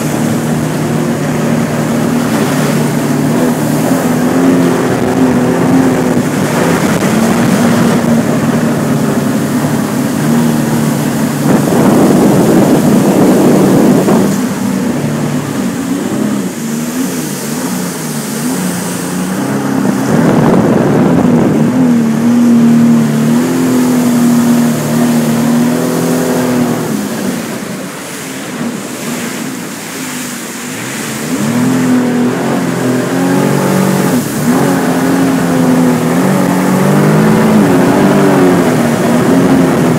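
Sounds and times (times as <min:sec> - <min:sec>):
rushing water noise: 0:00.0 - 0:39.9
watercraft engine revving: 0:00.0 - 0:39.9.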